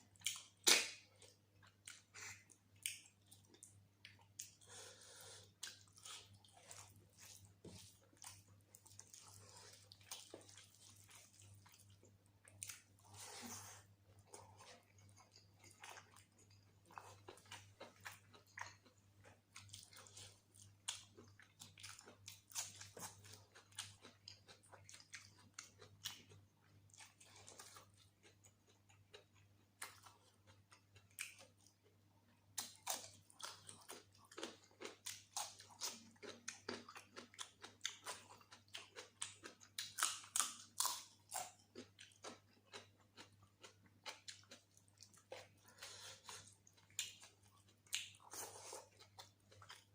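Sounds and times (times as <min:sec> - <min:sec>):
faint low hum: 0:00.0 - 0:49.9
person chewing food: 0:00.0 - 0:49.9.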